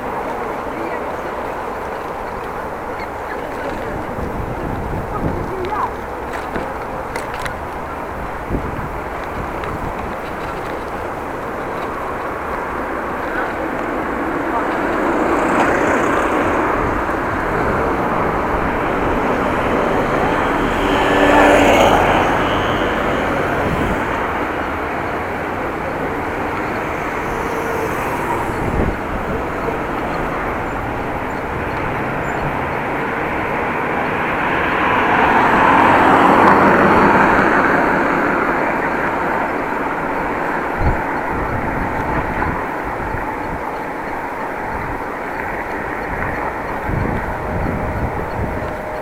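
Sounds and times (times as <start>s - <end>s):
bicycle road noise: 0.0s - 49.0s
vehicle passing: 0.0s - 49.0s
wind rushing on microphone: 0.0s - 49.0s.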